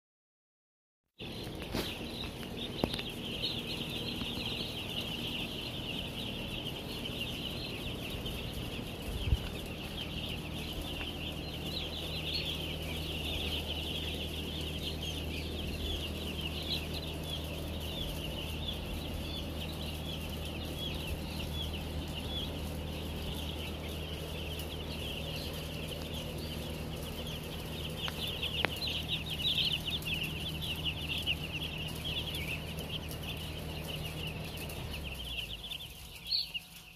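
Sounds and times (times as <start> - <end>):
chicks peeping: 1.2 - 36.9
steady low hum: 1.2 - 36.9.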